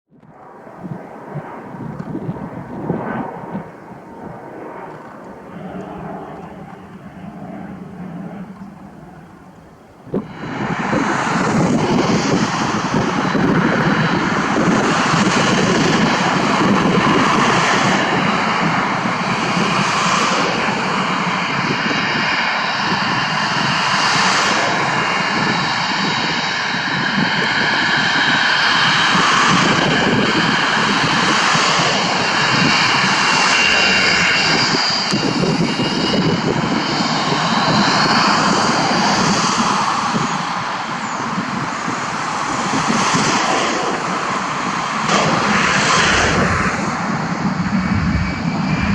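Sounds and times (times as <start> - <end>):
jet engines running: 0.3 - 48.9.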